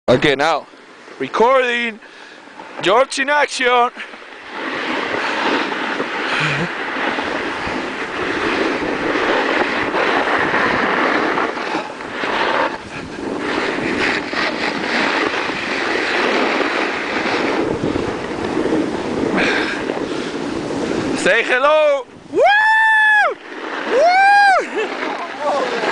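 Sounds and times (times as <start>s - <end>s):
wind buffeting microphone: 0.1s - 25.9s
skis scraping over snow: 1.0s - 25.9s.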